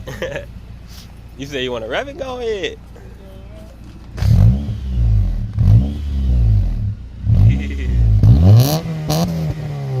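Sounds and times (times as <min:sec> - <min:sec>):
car engine revving: 0:00.8 - 0:10.0.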